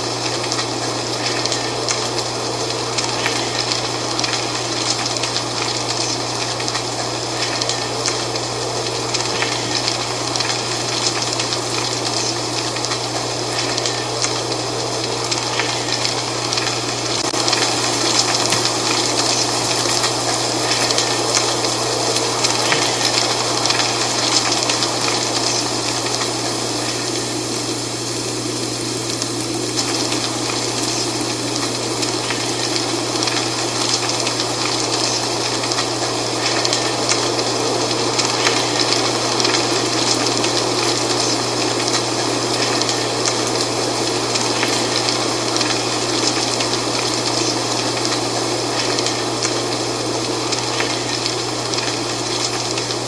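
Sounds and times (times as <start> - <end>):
dry leaves rustling in wind: 0.0 - 53.0.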